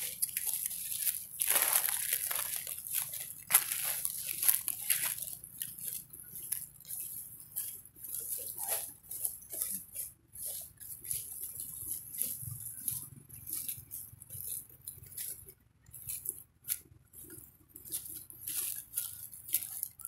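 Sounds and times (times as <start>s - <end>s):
dry leaves rustling and crackling: 0.0s - 15.4s, 16.0s - 20.0s.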